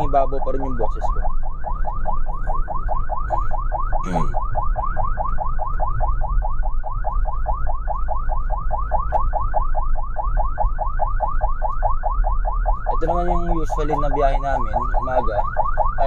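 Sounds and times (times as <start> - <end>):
ambulance siren yelping: 0.0 - 16.0
low rumble of moving vehicle: 0.0 - 16.0.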